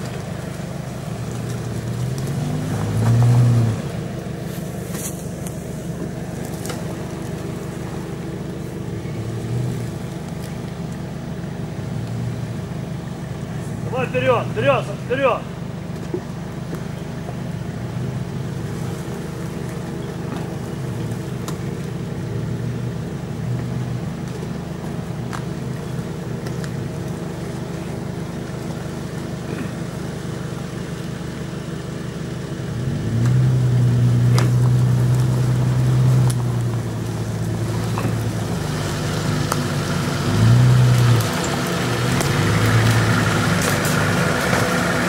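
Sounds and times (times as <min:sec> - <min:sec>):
car engine running at low revs: 0:00.0 - 0:45.0.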